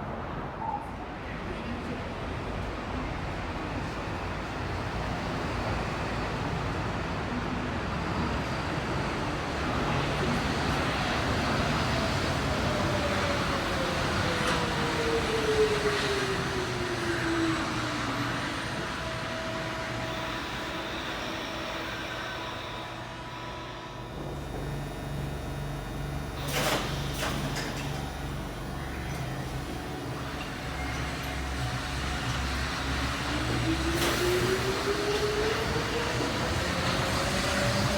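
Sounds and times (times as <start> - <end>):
monorail train running: 0.0 - 37.9.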